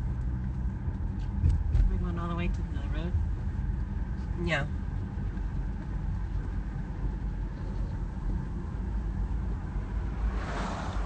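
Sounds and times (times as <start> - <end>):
car driving rumble from inside: 0.0 - 11.0.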